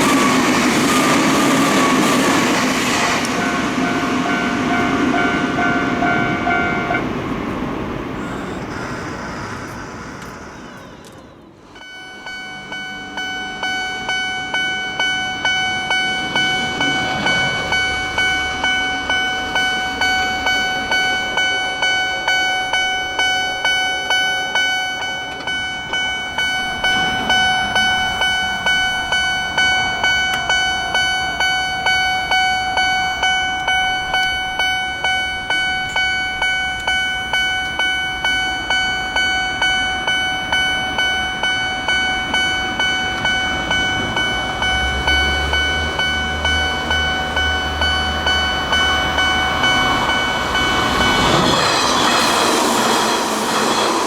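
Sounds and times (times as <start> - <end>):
level crossing warning bell: 0.0 - 9.2, 10.6 - 54.0
train passing: 0.0 - 54.0.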